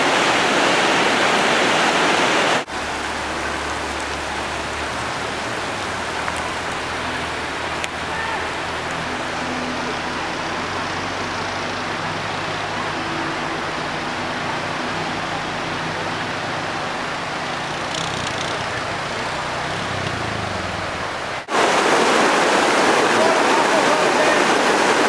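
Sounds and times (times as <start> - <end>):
floodwater rushing across ground: 0.0 - 25.0.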